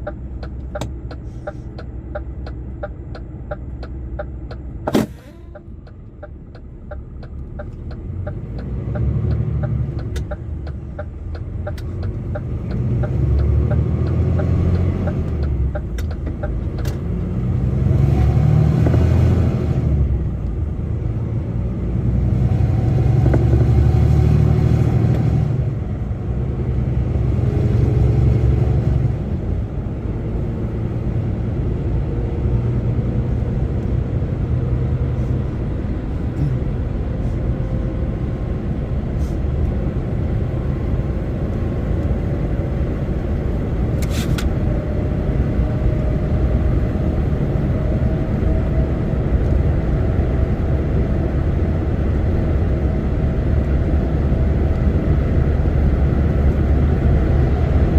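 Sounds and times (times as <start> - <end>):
truck engine and road rumble: 0.0 - 57.9.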